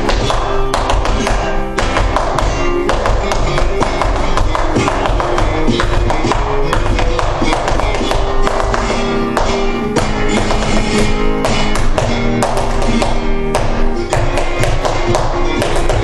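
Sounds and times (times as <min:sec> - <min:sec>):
flamenco guitar: 0:00.0 - 0:16.0
sharp percussive taps: 0:00.1 - 0:16.0.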